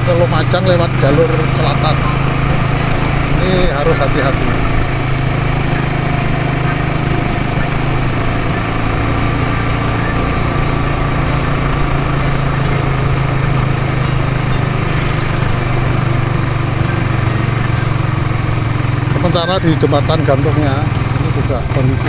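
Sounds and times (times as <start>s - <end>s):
motorcycle engine humming: 0.0s - 22.0s
wind and road noise: 0.0s - 22.0s.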